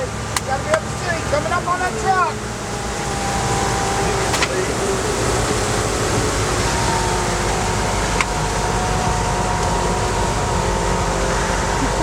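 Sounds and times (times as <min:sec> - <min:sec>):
faint whining tones: 0:00.0 - 0:12.0
vehicle engine and road noise: 0:00.0 - 0:12.0.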